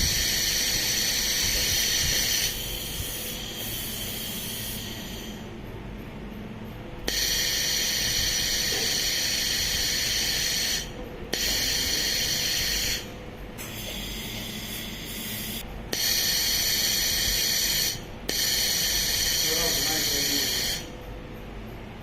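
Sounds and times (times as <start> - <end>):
laser welding machine hissing: 0.0 - 5.6, 7.0 - 21.0.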